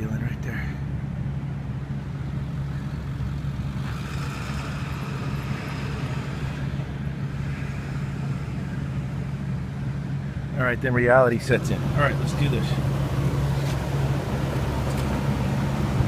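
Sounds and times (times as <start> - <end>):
equipment humming: 0.0 - 16.0.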